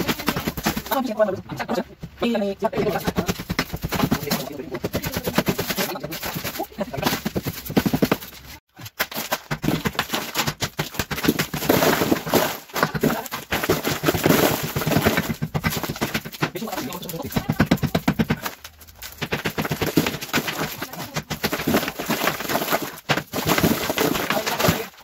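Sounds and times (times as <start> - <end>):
rapid hammering impacts: 0.0 - 1.2, 2.8 - 25.0.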